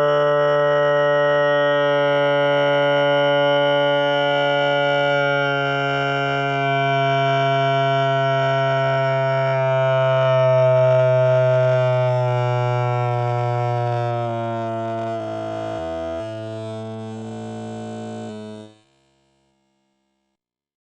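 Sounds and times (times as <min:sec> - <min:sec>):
slowed voice drone: 0:00.0 - 0:18.9.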